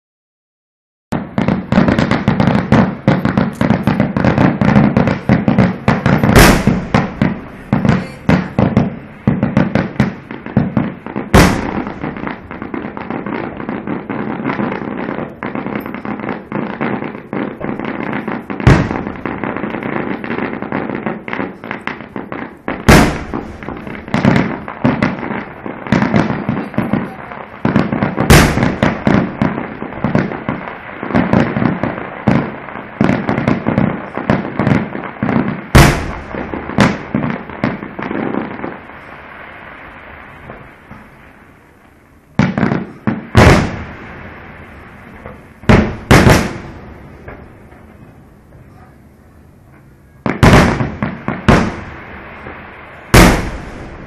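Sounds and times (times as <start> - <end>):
fireworks booms: 1.1 - 54.0
fireworks crackling pops: 1.1 - 54.0.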